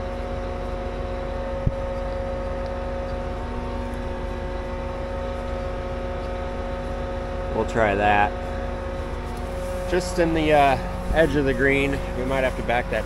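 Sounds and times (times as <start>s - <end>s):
tractor humming with drone: 0.0s - 13.0s.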